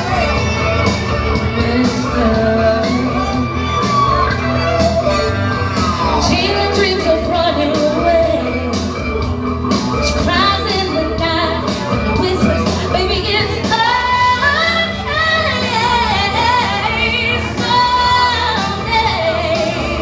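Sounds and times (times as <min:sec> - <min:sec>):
backing track with drum beat: 0:00.0 - 0:20.0.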